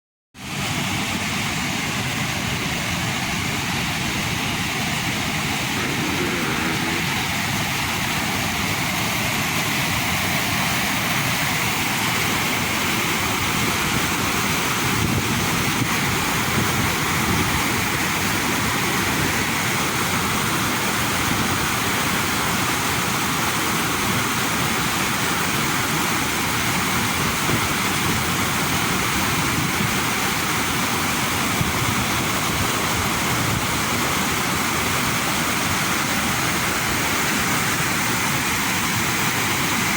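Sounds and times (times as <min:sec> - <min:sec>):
running water rushing: 0:00.4 - 0:39.9.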